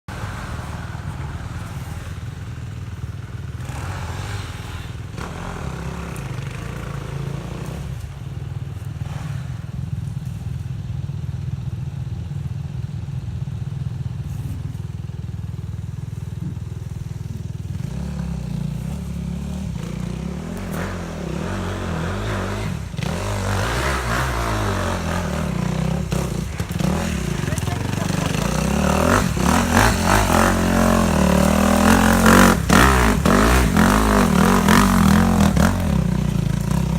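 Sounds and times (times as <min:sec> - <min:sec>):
off-road vehicle engine running: 0:00.1 - 0:36.9.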